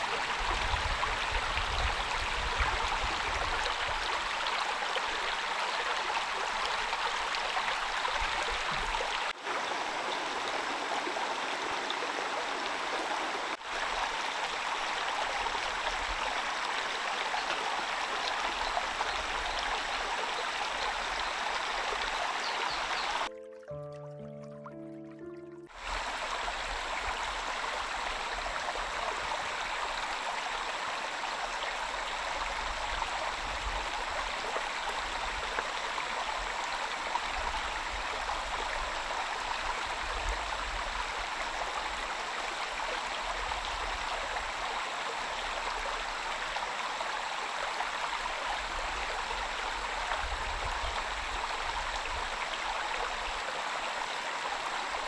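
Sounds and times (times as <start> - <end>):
rain falling steadily: 0.0 - 23.3, 25.8 - 55.0.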